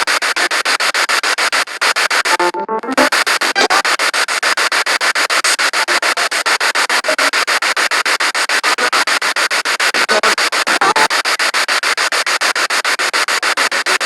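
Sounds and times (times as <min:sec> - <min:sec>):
pulsing radio static: 0:00.0 - 0:14.0
snatches of radio broadcast: 0:00.0 - 0:14.0.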